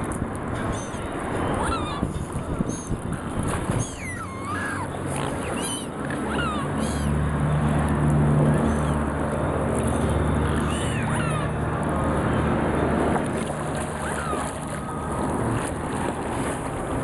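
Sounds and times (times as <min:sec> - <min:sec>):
gulls calling: 0:00.0 - 0:17.0
low motor drone: 0:00.0 - 0:17.0.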